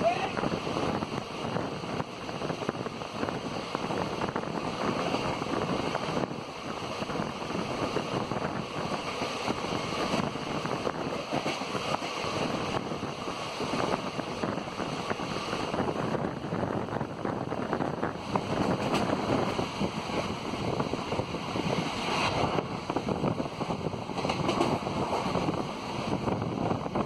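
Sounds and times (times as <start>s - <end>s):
train wheels rattling on rails: 0.0s - 27.0s
wind buffeting microphone: 0.0s - 27.0s.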